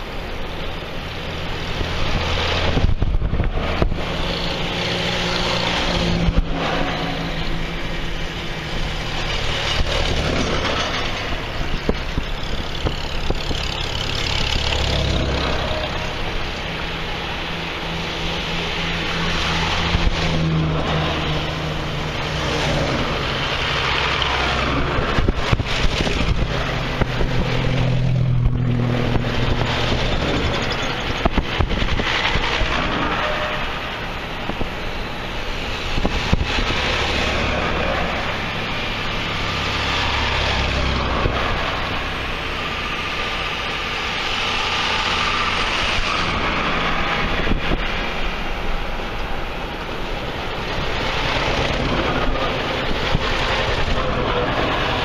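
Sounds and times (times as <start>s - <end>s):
steady rushing noise: 0.0s - 55.0s
tractor engines passing: 0.0s - 55.0s.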